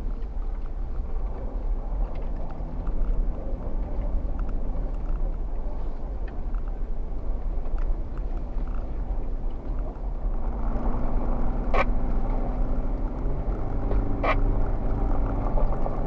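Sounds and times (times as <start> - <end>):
car engine running: 0.0 - 16.0
faint vehicle clicks and knocks: 0.0 - 16.0.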